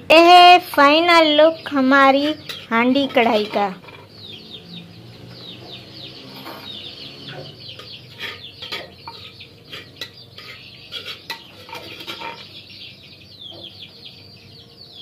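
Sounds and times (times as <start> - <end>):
chickens clucking: 0.6 - 15.0.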